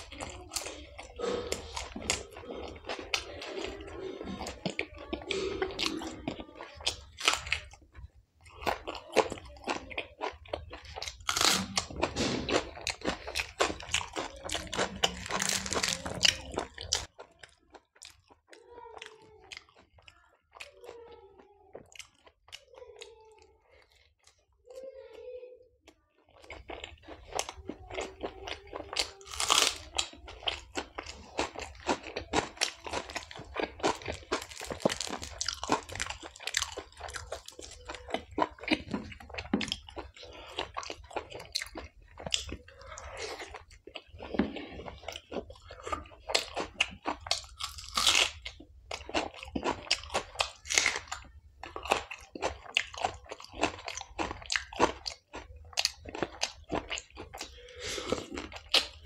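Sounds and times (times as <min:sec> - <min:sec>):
person chewing food: 0:00.0 - 0:25.2, 0:25.8 - 0:59.0.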